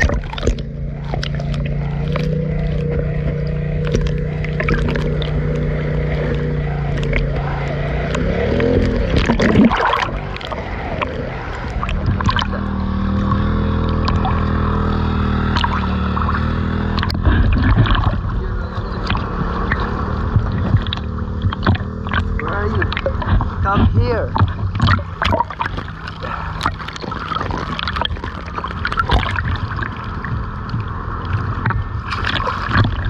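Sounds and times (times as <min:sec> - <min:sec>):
boat engine running: 0:00.0 - 0:33.0
water splashes: 0:00.0 - 0:33.0.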